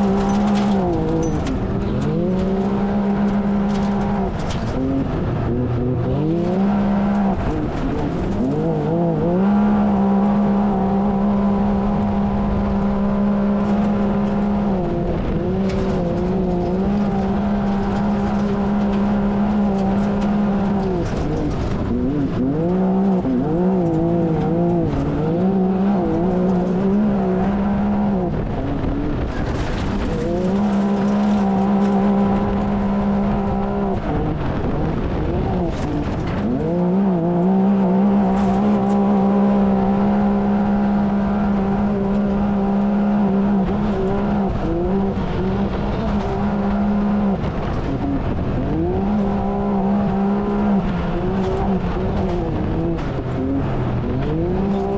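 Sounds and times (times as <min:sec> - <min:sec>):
engine running hard: 0:00.0 - 0:54.9
rush of wind and dirt: 0:00.0 - 0:54.9.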